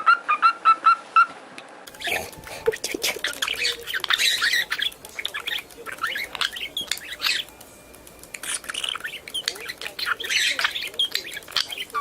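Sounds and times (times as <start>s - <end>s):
birds squawking and chirping: 1.9s - 12.0s.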